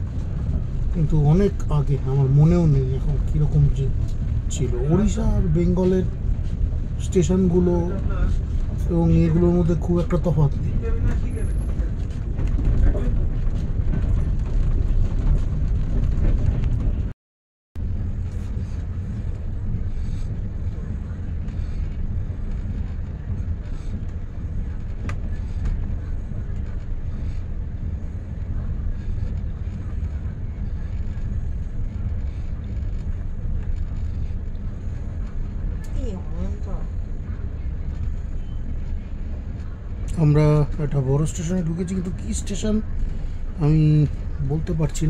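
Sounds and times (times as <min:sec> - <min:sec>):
train wheels rumbling on rails: 0:00.0 - 0:17.1, 0:17.8 - 0:45.0.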